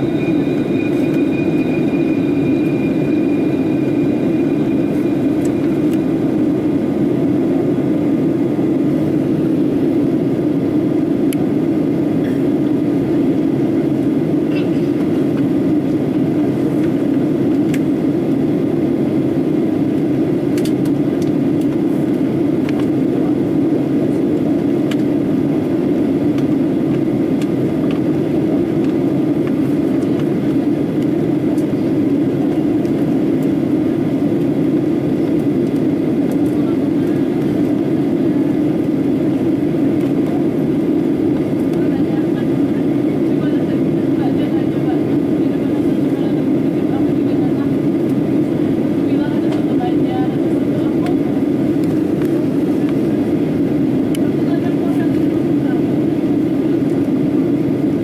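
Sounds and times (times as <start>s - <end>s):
airliner cabin engine rush: 0.0s - 58.0s.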